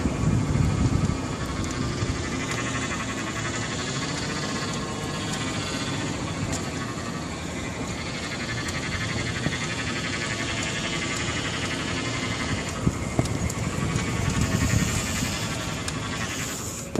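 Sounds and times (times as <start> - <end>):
car engine running: 0.0 - 16.9
multi-pitched whining noise: 0.0 - 16.9
sharp clicks: 0.5 - 16.9.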